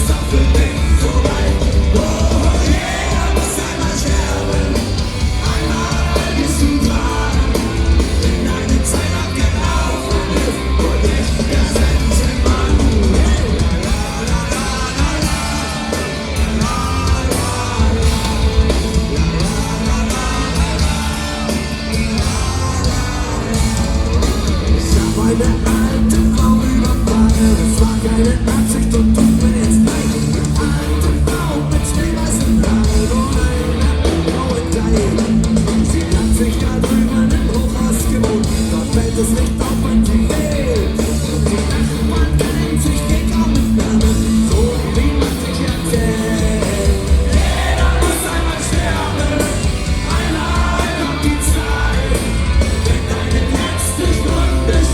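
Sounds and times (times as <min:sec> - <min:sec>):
drums: 0:00.0 - 0:54.9
electric guitars: 0:00.0 - 0:54.9
person singing: 0:00.0 - 0:54.9.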